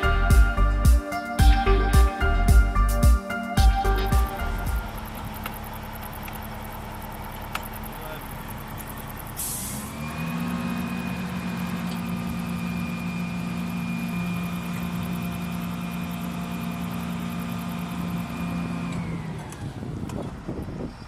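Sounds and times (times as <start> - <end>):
fuel pump humming: 0.0 - 19.7.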